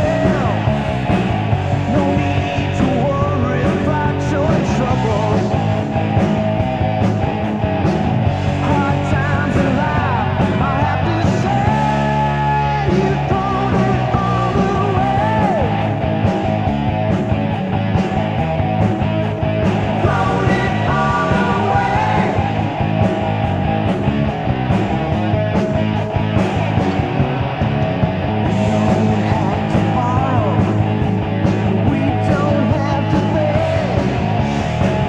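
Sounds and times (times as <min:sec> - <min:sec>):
hard rock band playing: 0:00.0 - 0:35.0.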